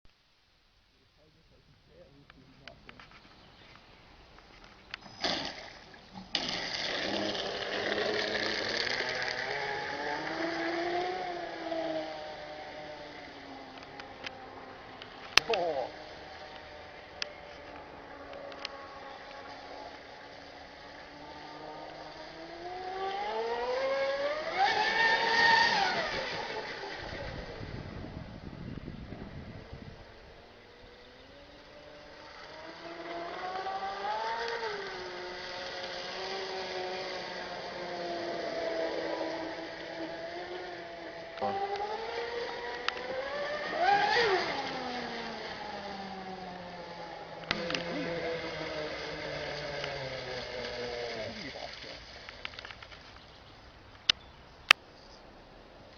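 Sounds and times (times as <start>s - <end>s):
model speedboat engine at full throttle: 2.0s - 54.8s.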